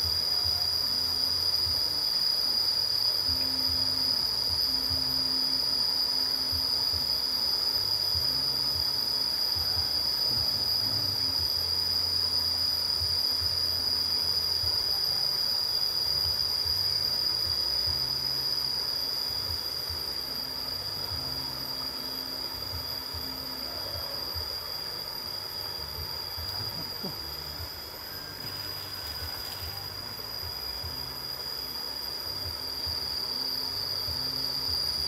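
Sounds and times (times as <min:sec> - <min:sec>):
low hum: 0:00.0 - 0:35.0
shrill insect chorus: 0:00.0 - 0:35.0.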